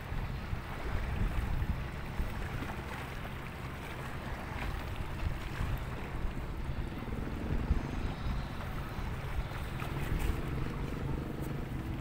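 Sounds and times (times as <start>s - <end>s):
sea noise on shore: 0.0s - 12.0s
wind buffeting microphone: 0.0s - 12.0s.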